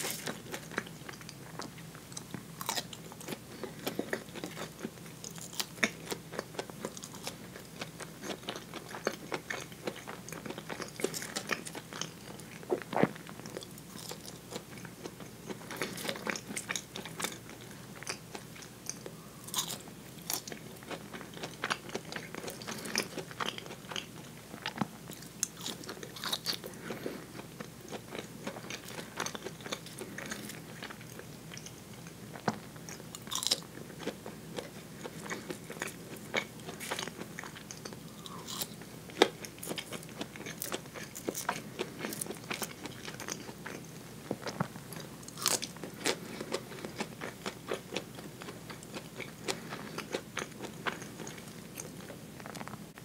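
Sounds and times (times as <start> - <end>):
chewing soft food: 0.0 - 53.0.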